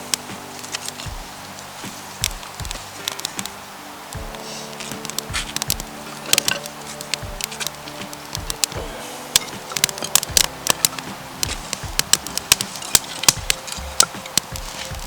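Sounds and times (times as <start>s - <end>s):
campfire crackling: 0.0s - 15.0s
faint steady tones: 0.0s - 15.0s.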